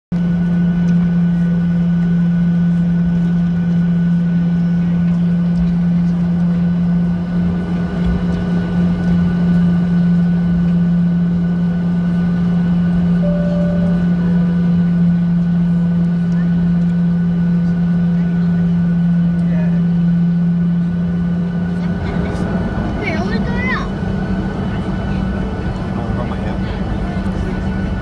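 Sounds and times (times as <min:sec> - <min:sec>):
jet engines droning: 0:00.4 - 0:28.0.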